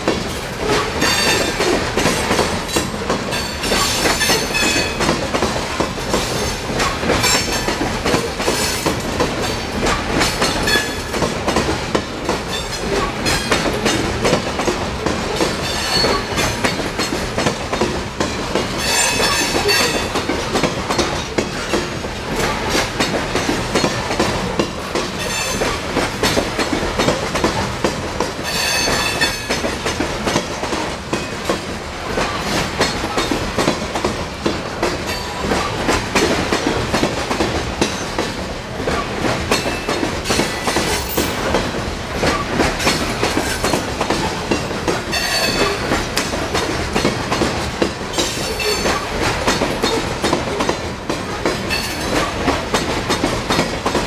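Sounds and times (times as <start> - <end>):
freight train rumbling past: 0.0 - 54.0
wheels clicking over rail joints: 0.0 - 54.0.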